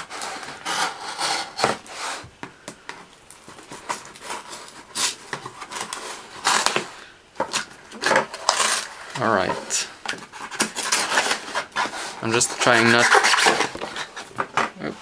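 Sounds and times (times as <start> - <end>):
knife sawing through cardboard: 0.0 - 2.3, 3.7 - 6.9, 7.5 - 14.3.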